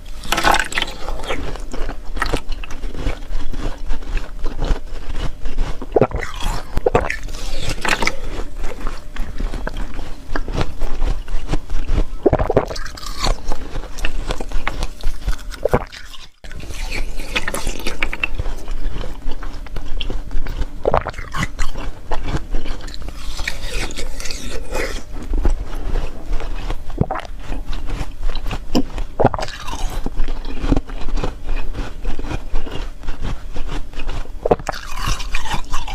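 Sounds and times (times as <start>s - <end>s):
ice being chewed: 0.0s - 35.9s.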